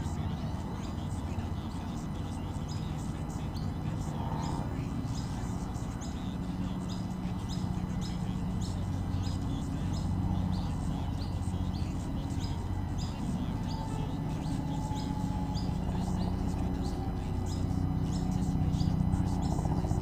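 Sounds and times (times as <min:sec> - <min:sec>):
bird chirping: 0:00.0 - 0:20.0
low steady hum: 0:00.0 - 0:20.0.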